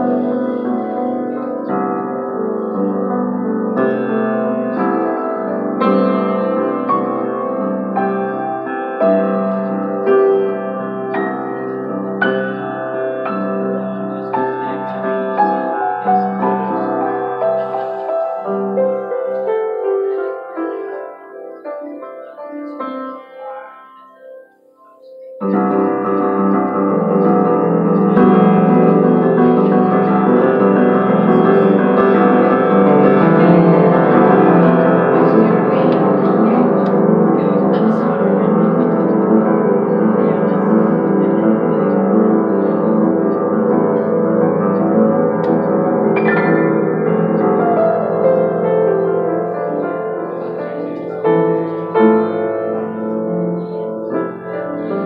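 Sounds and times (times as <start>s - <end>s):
grand piano playing: 0.0s - 55.0s.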